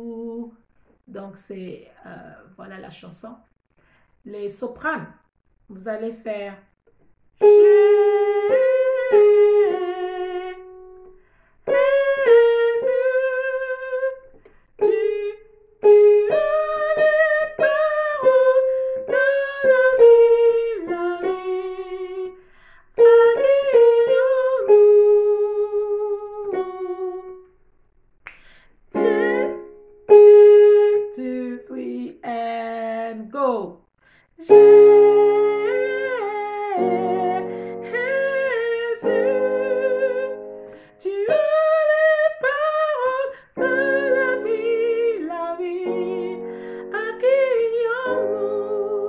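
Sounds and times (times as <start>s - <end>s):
woman singing with vibrato: 0.0s - 0.7s, 7.4s - 11.1s, 11.7s - 27.4s, 28.9s - 49.0s.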